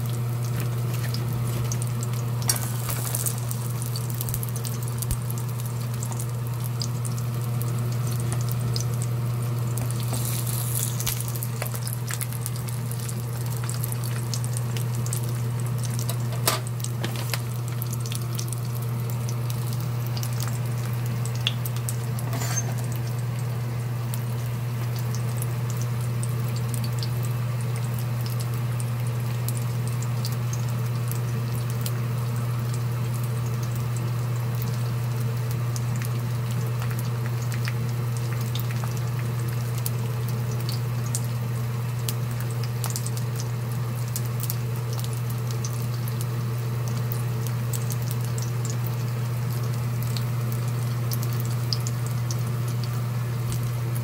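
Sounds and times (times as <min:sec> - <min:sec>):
meat sizzling in hot oil: 0:00.0 - 0:54.0.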